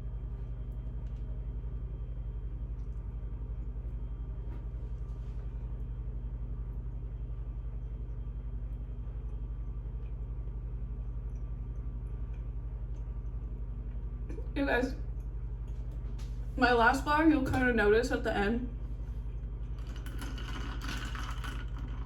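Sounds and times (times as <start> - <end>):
low pulsing machine hum: 0.0 - 22.0.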